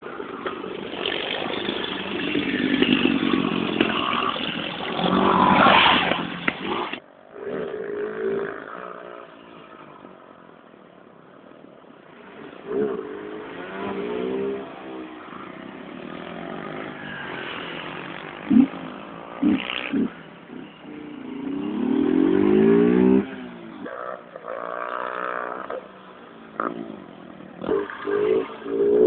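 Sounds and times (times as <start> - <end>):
motorcycle engines revving: 0.0 - 10.2, 11.9 - 29.0.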